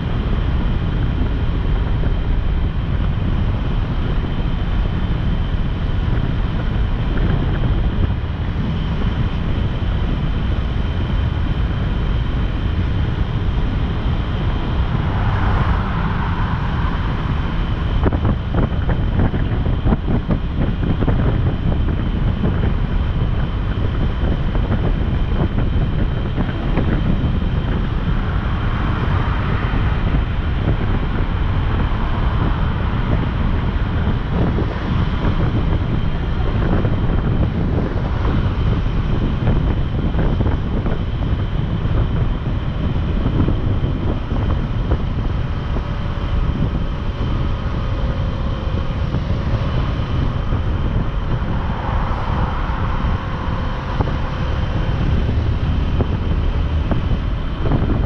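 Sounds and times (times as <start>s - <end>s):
road noise: 0.0s - 58.0s
wind buffeting microphone: 0.0s - 58.0s.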